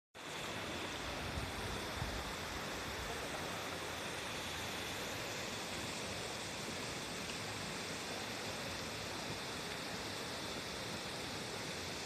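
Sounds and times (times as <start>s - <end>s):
river rushing over stones: 0.2s - 12.0s
waterfall: 0.2s - 12.0s.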